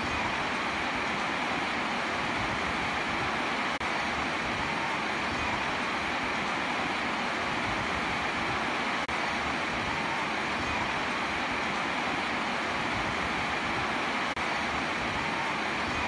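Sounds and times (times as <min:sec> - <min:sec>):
rain falling on a roof: 0:00.0 - 0:16.0.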